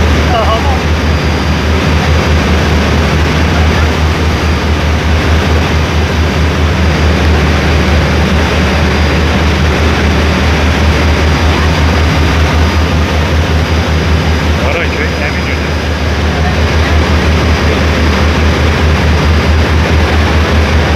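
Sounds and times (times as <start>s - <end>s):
churning wake water: 0.0s - 20.9s
ferry engine droning: 0.0s - 20.9s.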